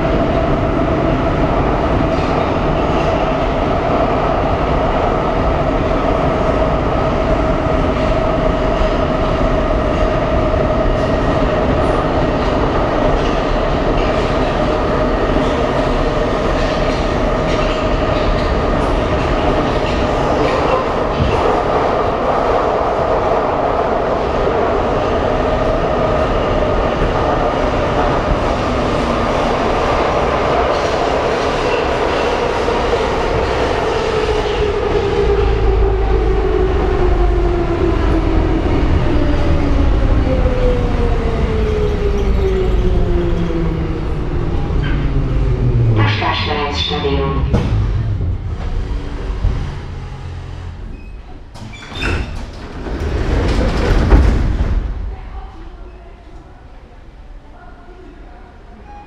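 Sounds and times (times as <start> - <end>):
train wheels rumbling and rattling: 0.0 - 46.1, 47.4 - 56.4.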